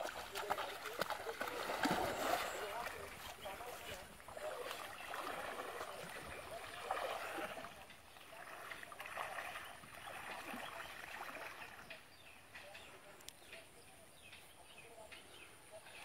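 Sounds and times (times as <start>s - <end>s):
water sloshing around wading person: 0.0s - 13.2s.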